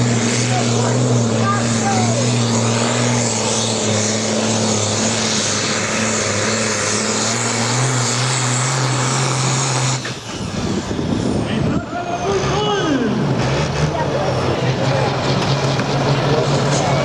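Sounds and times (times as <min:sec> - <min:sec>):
tractor diesel engine at full throttle: 0:00.0 - 0:17.0.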